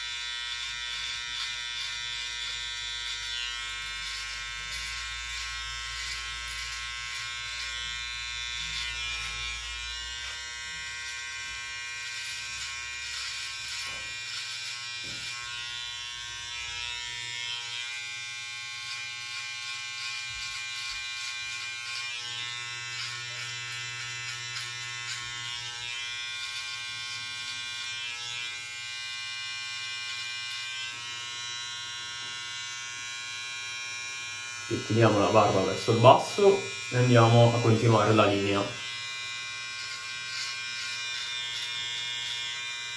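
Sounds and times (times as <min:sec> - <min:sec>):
electric hair clipper buzzing: 0:00.0 - 0:42.9.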